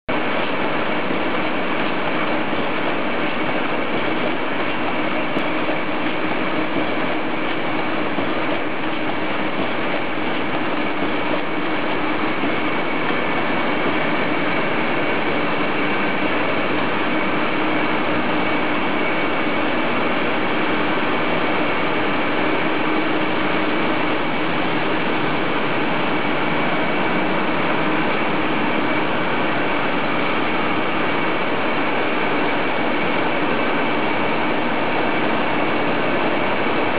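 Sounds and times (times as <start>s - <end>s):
high steady whine: 0.1s - 36.9s
low machine hum: 0.1s - 36.9s.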